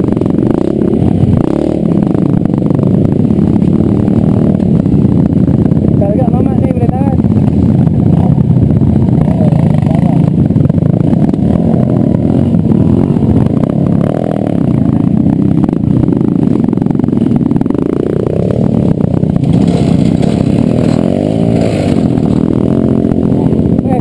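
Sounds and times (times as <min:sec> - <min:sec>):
dirt bike engine revving: 0:00.0 - 0:24.0
other trail bikes: 0:00.0 - 0:24.0.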